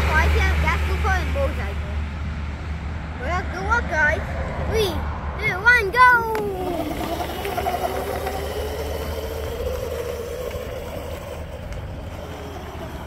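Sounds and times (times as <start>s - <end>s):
go-kart motor whining: 0.0s - 2.0s, 3.2s - 13.0s.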